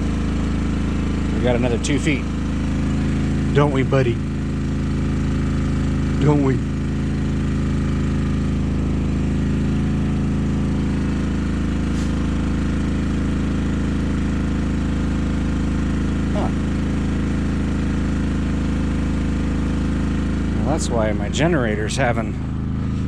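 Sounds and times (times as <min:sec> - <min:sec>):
diesel generator running: 0:00.0 - 0:23.0.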